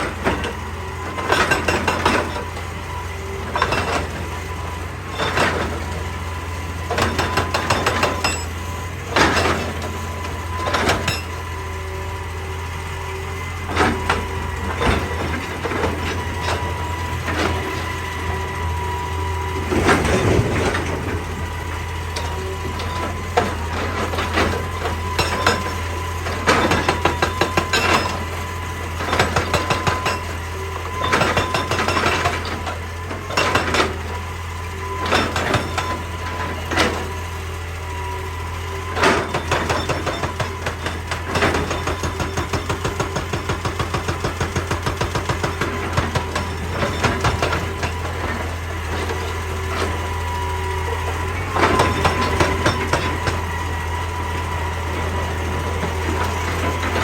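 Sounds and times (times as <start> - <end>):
hydraulic breaker hammering rock: 0.0 - 12.0, 12.9 - 37.6, 38.3 - 57.0
diesel engine running: 0.0 - 57.0.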